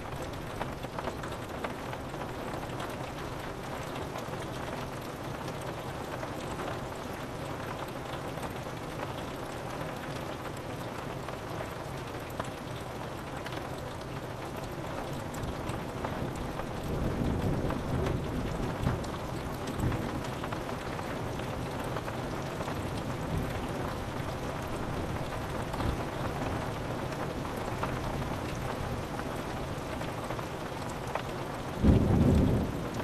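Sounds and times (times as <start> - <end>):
rain on window glass: 0.0 - 33.0.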